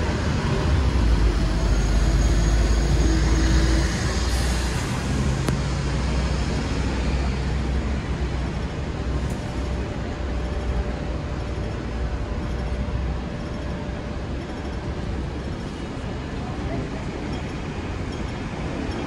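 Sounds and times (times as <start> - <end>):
street noise: 0.0 - 19.0
tram rumbling on tracks: 0.0 - 19.0.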